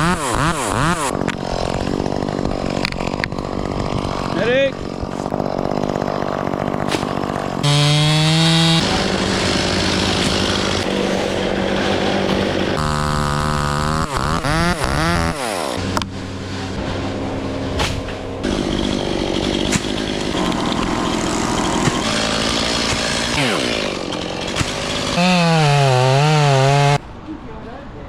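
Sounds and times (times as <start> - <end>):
chainsaw engine revving: 0.0 - 27.0.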